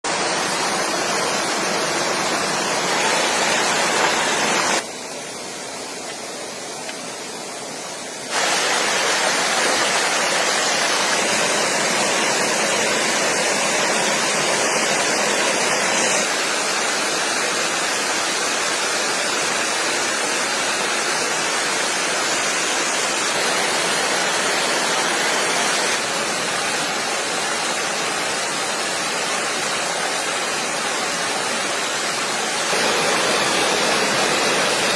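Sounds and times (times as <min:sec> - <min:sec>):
stream water rushing: 0:00.0 - 0:34.9.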